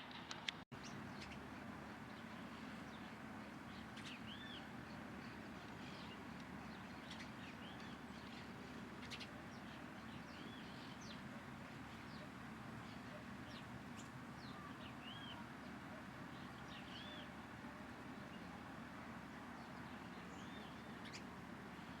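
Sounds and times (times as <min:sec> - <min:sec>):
low background noise: 0:00.0 - 0:22.0
small birds chirping: 0:00.8 - 0:22.0.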